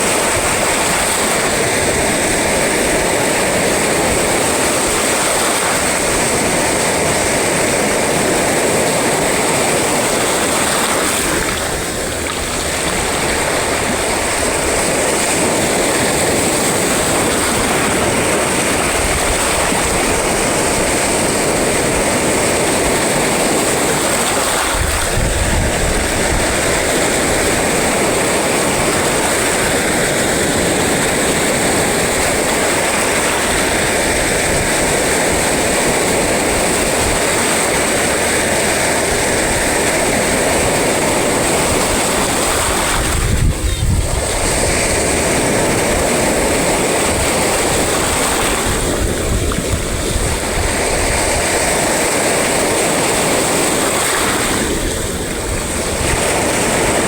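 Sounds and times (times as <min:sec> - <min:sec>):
sea surf breaking on shore: 0:00.0 - 0:57.0
wind buffeting microphone: 0:00.0 - 0:57.0.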